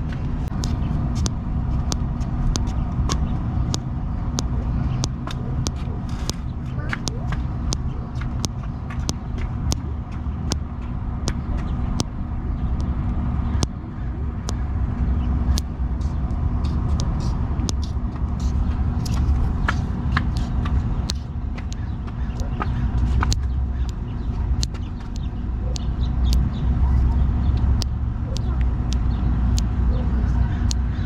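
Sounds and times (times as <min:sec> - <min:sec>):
thumb clicks and pops: 0:00.0 - 0:13.8, 0:14.4 - 0:29.8
steady low rumble: 0:00.0 - 0:31.0.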